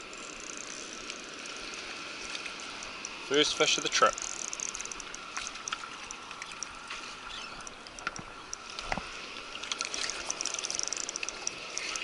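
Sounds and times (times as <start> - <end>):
fishing reel clicking: 0.0 - 8.6, 9.7 - 12.0
water lapping against rocks: 0.8 - 12.0.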